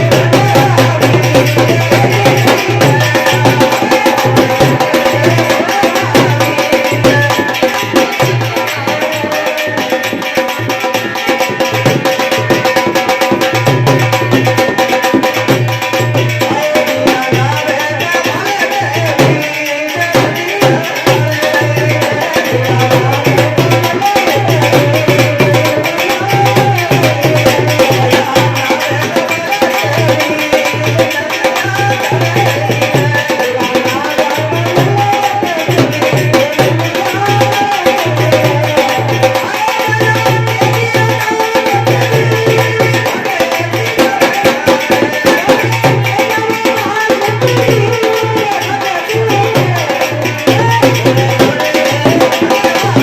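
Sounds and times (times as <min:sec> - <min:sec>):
hand drum beat: 0:00.0 - 0:53.0.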